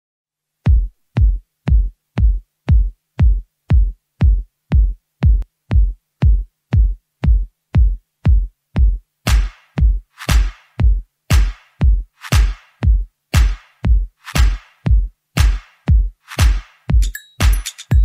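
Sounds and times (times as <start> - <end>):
house music kick drum: 0.6 - 18.0.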